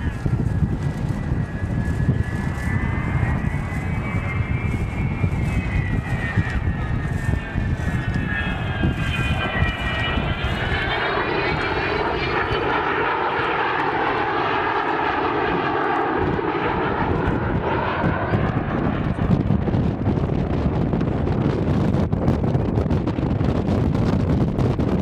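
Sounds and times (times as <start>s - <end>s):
aircraft engine whine overhead: 0.0s - 25.0s
wind buffeting microphone: 0.0s - 25.0s.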